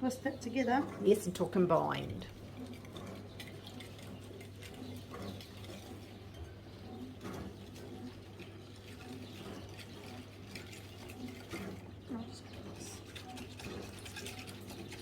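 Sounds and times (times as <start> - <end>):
whisk beating sauce in bowl: 0.6 - 15.0.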